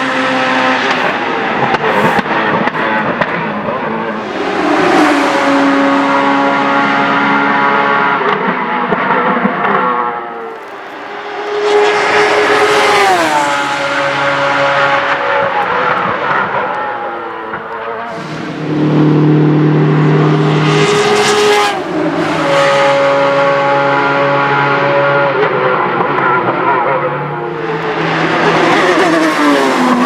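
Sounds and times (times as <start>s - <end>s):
racing car engine: 0.0s - 30.0s.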